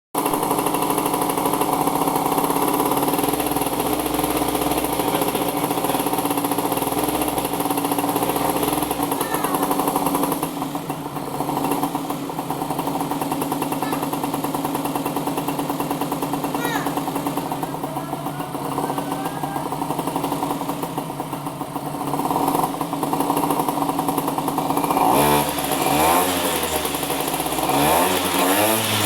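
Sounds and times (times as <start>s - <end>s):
motorcycle engine running: 0.2s - 29.0s.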